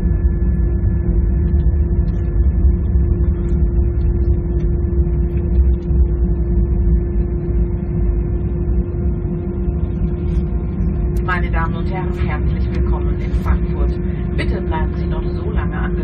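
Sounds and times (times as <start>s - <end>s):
airplane cabin rumble: 0.0s - 16.0s
constant hum: 0.0s - 16.0s.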